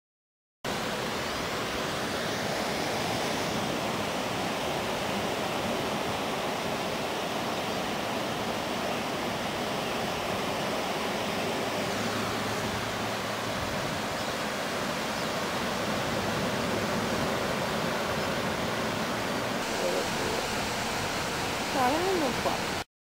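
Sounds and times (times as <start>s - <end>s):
surf breaking on a beach: 0.9s - 22.8s.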